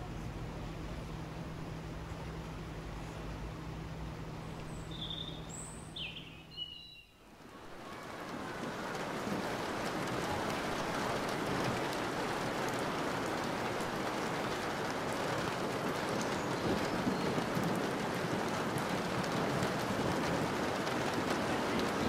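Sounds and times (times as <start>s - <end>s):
river water rushing: 4.2s - 22.0s.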